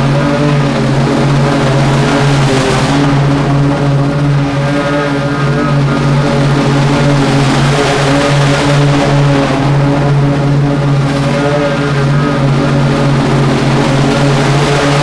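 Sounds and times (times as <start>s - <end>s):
lawn mower engine running: 0.0s - 15.0s
mower blades cutting grass: 0.0s - 15.0s.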